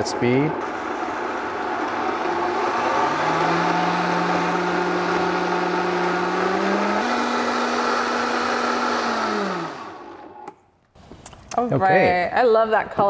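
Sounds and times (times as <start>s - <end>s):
blender motor running: 0.0s - 10.5s.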